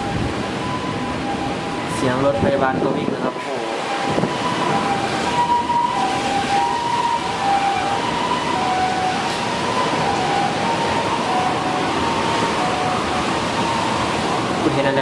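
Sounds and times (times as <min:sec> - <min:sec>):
loud steady rushing noise: 0:00.0 - 0:15.0
two-tone ambulance siren: 0:00.0 - 0:15.0.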